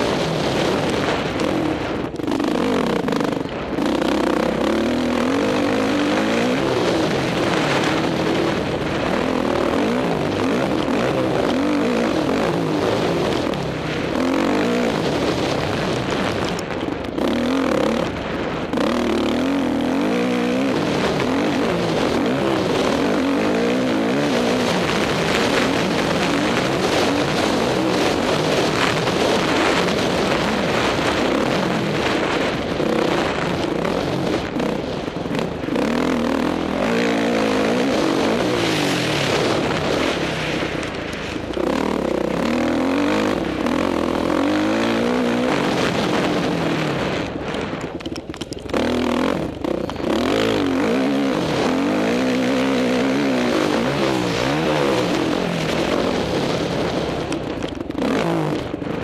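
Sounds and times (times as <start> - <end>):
motocross engine revving: 0.0 - 47.4, 48.7 - 57.1, 57.9 - 58.8.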